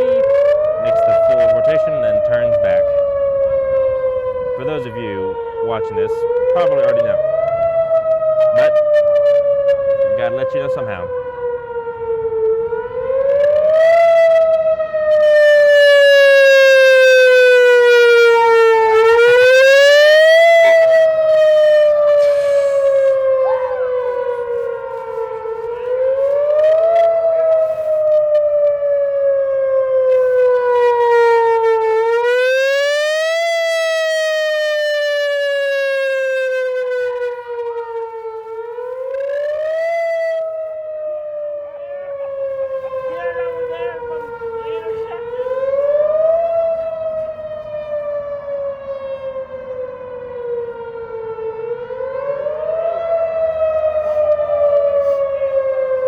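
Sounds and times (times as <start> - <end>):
rotating warning siren: 0.0 - 56.0.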